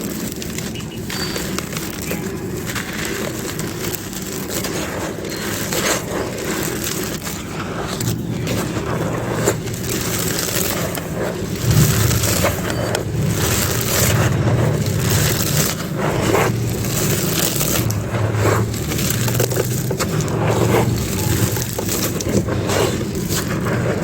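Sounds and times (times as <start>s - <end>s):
dry clay crunching: 0.0s - 24.0s.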